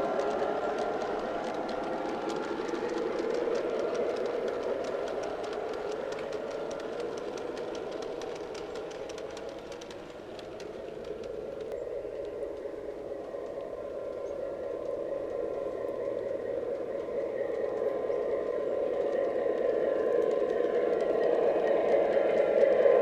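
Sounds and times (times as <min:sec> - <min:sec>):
light rapid clicks: 0:00.0 - 0:23.0
model train rumble and whir: 0:00.0 - 0:23.0.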